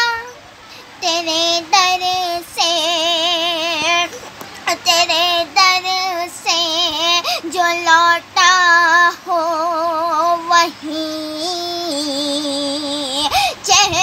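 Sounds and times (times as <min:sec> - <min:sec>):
woman singing: 0:00.0 - 0:00.4, 0:01.0 - 0:14.0.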